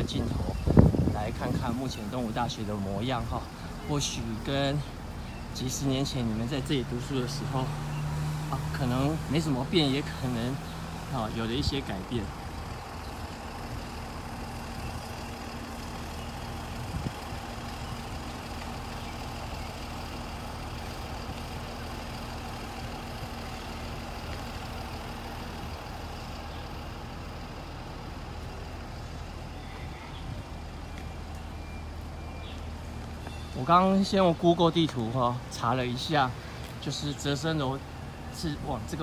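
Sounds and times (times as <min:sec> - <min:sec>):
engine idling hum: 0:00.0 - 0:39.0.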